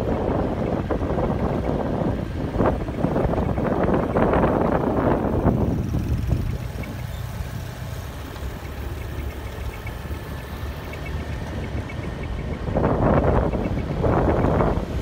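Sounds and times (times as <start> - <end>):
vehicle engine rumble: 0.0 - 15.0
wind buffeting microphone: 0.0 - 15.0.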